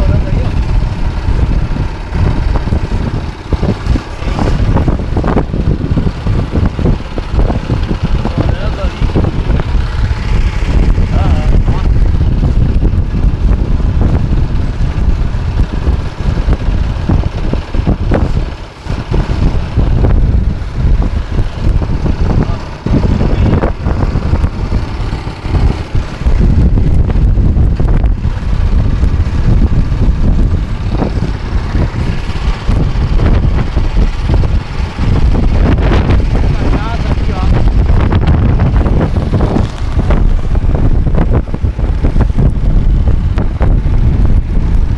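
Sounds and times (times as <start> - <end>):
boat motor running: 0.0 - 44.9
wind buffeting microphone: 0.0 - 44.9.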